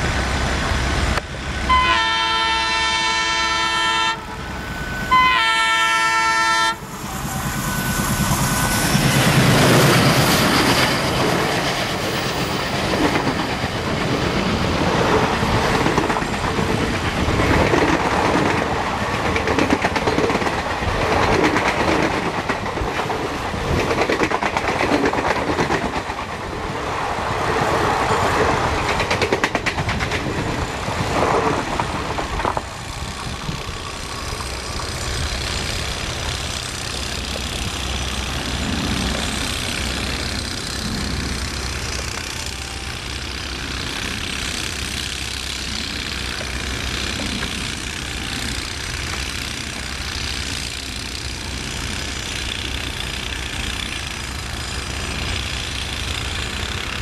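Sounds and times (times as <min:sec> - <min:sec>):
distant train rumble: 0:00.0 - 0:57.0
train wheels clattering over joints: 0:07.1 - 0:26.7, 0:28.1 - 0:57.0.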